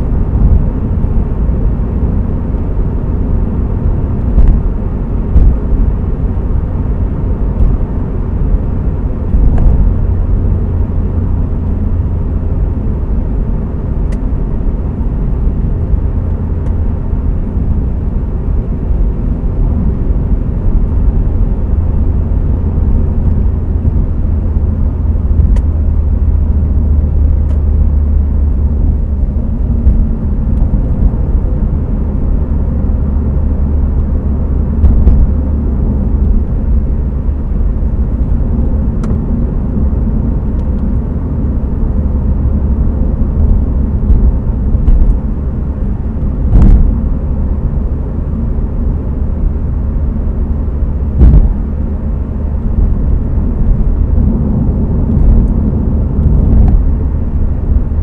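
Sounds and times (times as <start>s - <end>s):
car cabin road noise: 0.0s - 58.0s.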